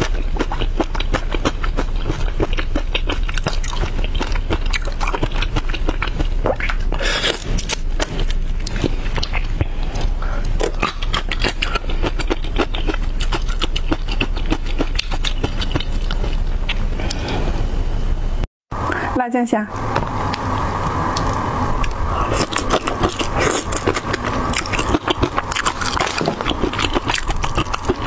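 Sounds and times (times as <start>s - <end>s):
chewing shrimp crackles: 0.0s - 17.4s, 20.4s - 28.0s.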